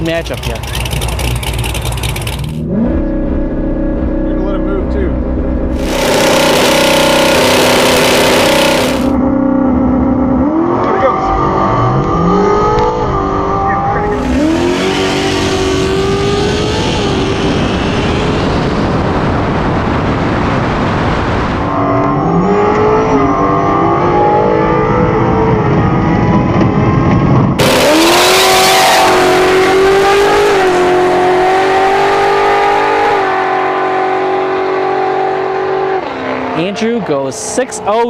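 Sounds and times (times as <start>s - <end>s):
car engine at full throttle: 0.0s - 38.0s.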